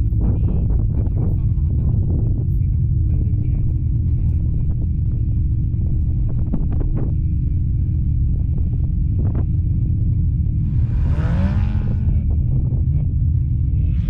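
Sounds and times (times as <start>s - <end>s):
vehicle engine rumble: 0.0s - 14.0s
wind noise on microphone: 0.0s - 14.0s.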